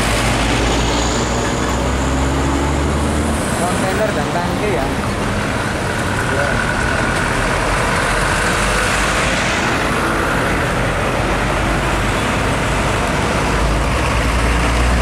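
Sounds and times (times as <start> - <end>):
diesel trucks passing: 0.0 - 15.0
truck diesel engine rumble: 0.0 - 15.0.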